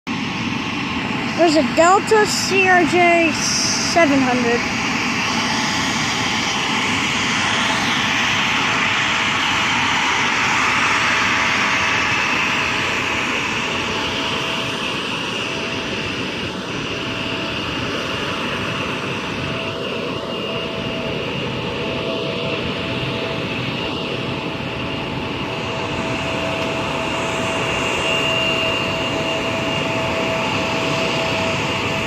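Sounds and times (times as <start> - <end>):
jet engines rushing: 0.1 - 32.0.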